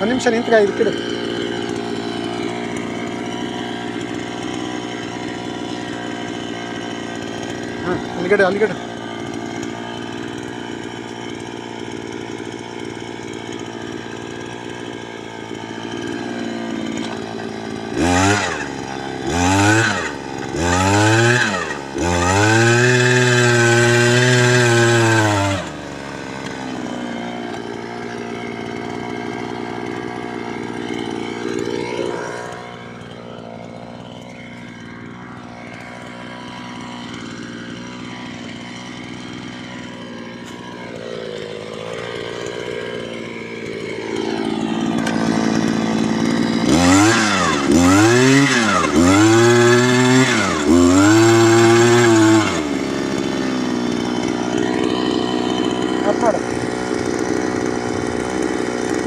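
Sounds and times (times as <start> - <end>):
power drill boring: 0.0 - 59.0.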